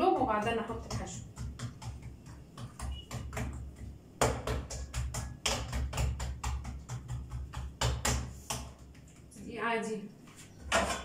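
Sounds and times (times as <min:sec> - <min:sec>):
rolling pin knocking on countertop: 0:00.0 - 0:08.9.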